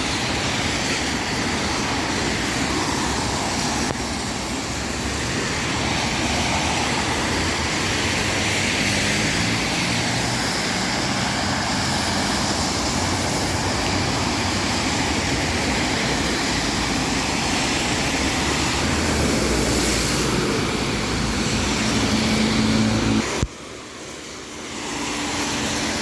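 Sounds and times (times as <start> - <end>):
outdoor traffic with engine hum: 0.0 - 26.0.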